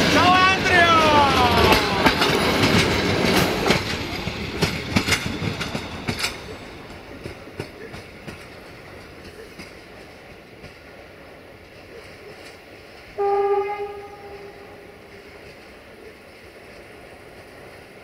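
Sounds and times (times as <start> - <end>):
train rumble: 0.0 - 18.0
train wheels clickety-clack: 0.0 - 18.0.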